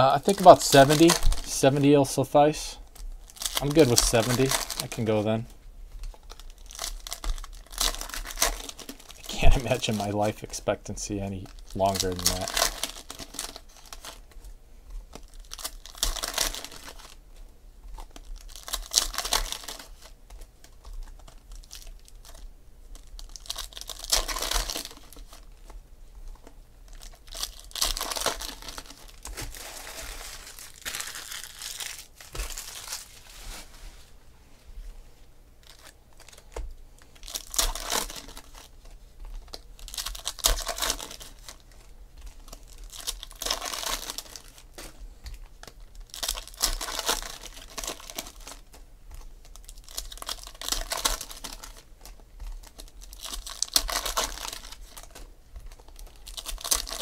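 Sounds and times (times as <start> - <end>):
foil wrappers tearing and crinkling: 0.0 - 5.5, 6.2 - 14.2, 15.1 - 17.2, 18.0 - 25.7, 26.8 - 33.7, 35.6 - 57.0.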